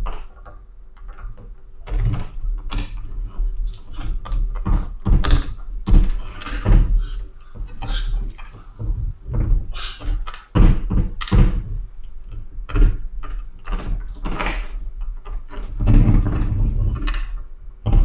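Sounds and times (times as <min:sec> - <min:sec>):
plastic helmet shell knocking and rubbing: 0:00.0 - 0:18.0.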